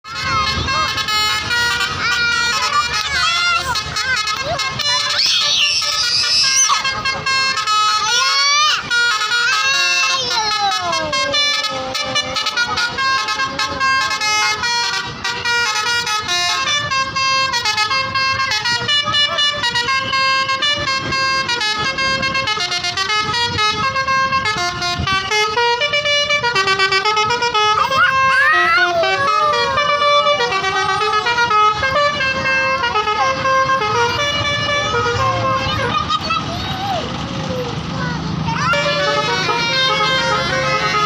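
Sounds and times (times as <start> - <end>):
musical bus horn: 0.0 - 41.0
sliding horn tones: 0.1 - 36.0, 38.7 - 41.0.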